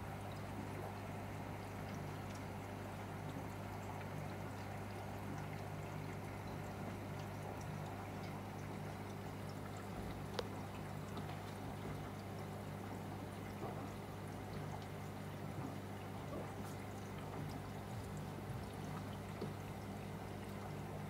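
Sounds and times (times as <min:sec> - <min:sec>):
aquarium water trickling: 0:00.0 - 0:21.0
low steady hum: 0:00.0 - 0:21.0.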